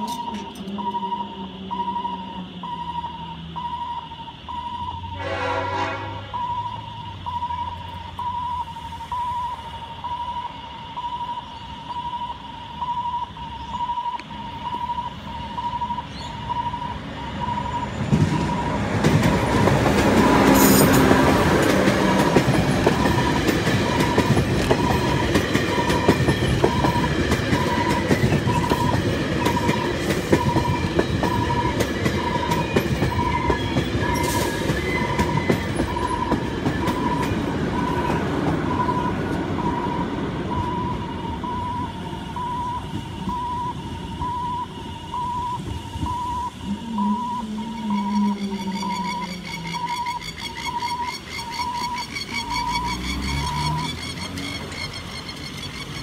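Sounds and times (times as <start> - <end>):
train wheels rumbling and clacking: 0.0 - 5.4, 6.9 - 56.0.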